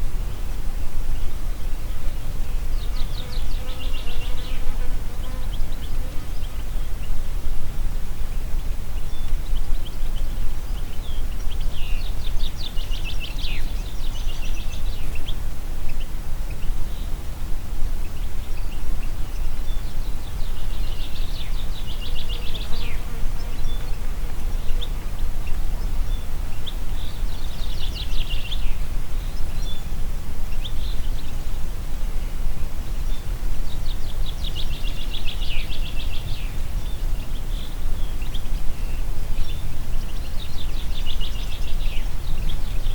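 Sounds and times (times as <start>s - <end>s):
low wind noise: 0.0s - 42.9s
songbird singing: 0.0s - 42.9s.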